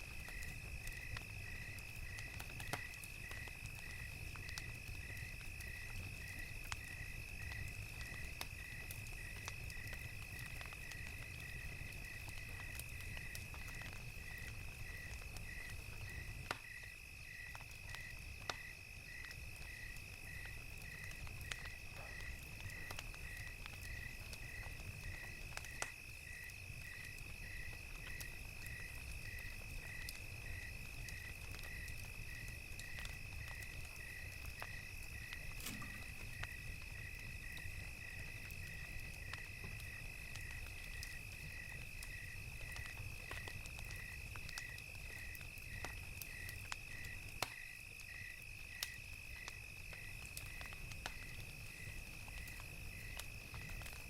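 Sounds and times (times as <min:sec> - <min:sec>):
crackling fire: 0:00.0 - 0:54.0
crickets chirping: 0:00.1 - 0:54.0.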